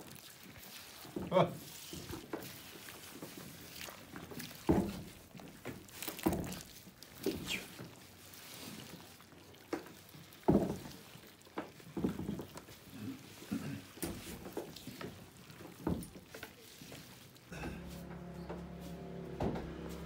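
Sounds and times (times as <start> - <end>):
wet knocks and squelches of paste: 0.0 - 17.9.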